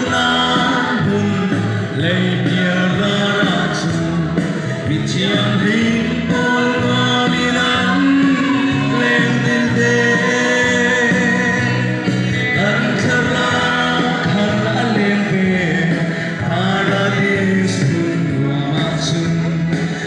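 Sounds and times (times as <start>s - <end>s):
instrumental backing music: 0.0s - 20.0s
man singing into a microphone: 0.0s - 20.0s.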